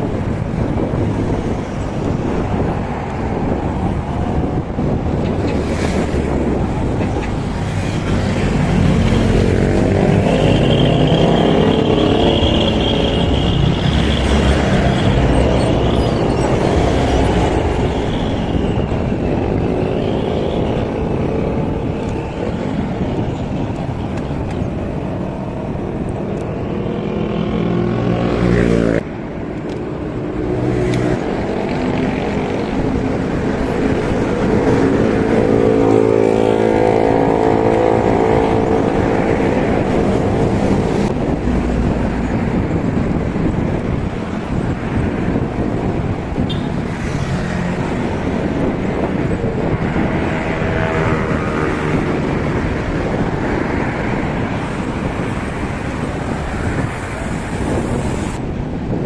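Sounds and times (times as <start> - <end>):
road noise rushing: 0.0 - 59.0
vehicle engines passing: 0.0 - 59.0.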